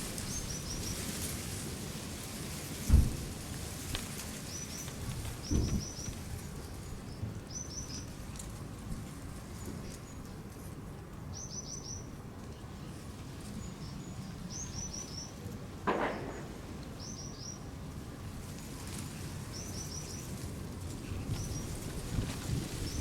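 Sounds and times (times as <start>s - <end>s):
low outdoor background noise: 0.0s - 23.0s.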